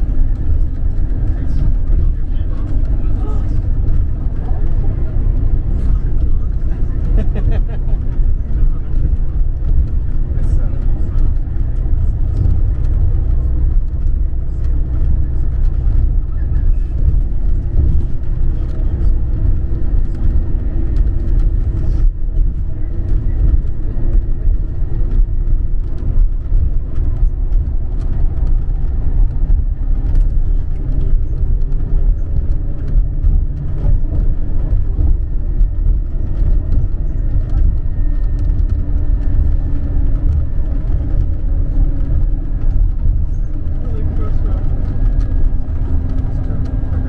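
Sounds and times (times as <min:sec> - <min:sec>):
coach engine and road noise: 0:00.0 - 0:47.0
faint steady engine tones: 0:00.0 - 0:47.0.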